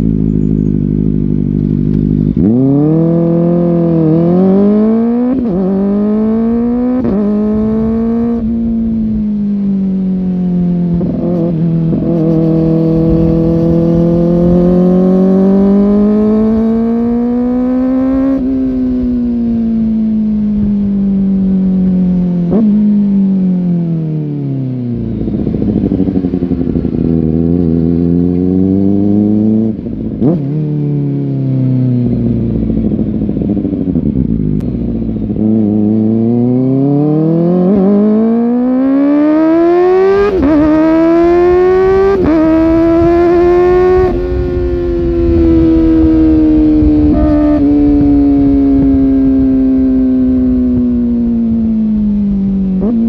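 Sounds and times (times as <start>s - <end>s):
motorcycle engine revving through upshifts: 0.0s - 53.0s.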